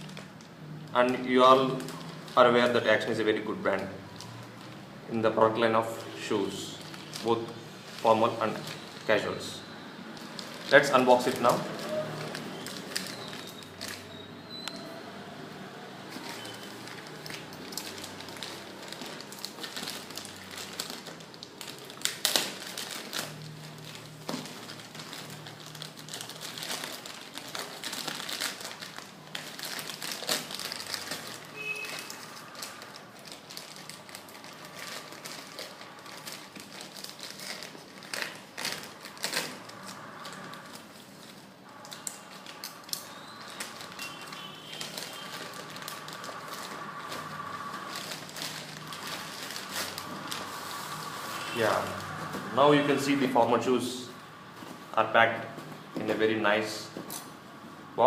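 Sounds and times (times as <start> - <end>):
plastic packaging rustling: 0.0 - 4.9, 5.5 - 57.4.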